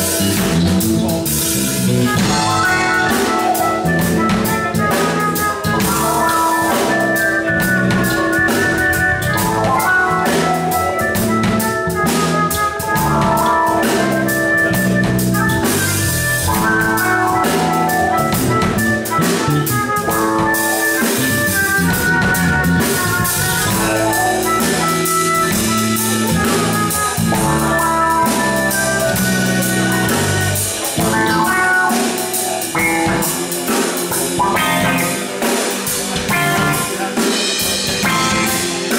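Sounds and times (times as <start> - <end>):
drum kit beat: 0.0 - 38.9
electric bass: 0.0 - 38.9
electric guitar: 0.0 - 38.9
keyboards: 0.0 - 38.9.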